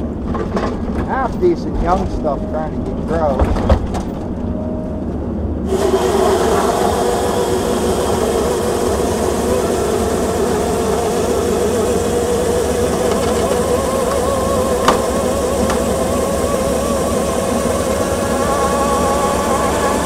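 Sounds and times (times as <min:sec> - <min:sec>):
diesel engine and hydraulics whining: 0:00.0 - 0:20.0.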